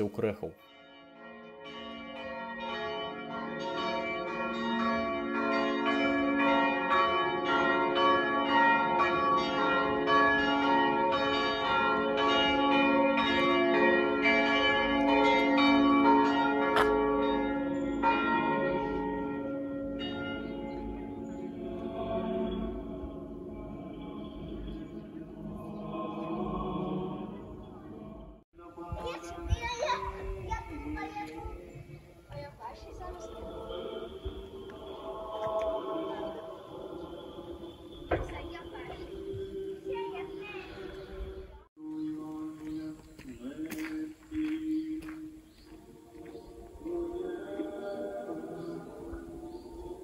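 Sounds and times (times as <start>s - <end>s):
church bells ringing: 0.0s - 31.9s, 32.6s - 42.8s.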